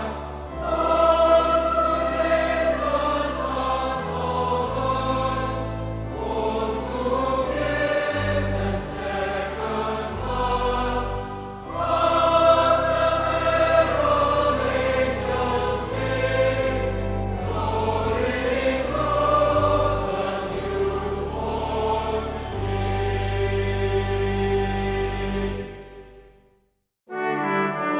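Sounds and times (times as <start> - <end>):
low held accompaniment: 0.0 - 26.2
choir singing sustained chords: 0.0 - 26.4.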